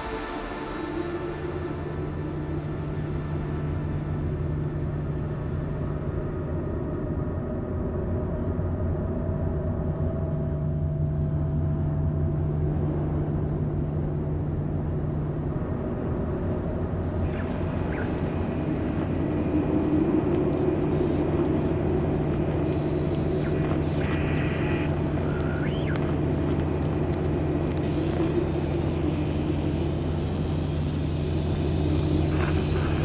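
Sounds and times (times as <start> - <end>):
low rumbling drone: 0.0 - 33.0.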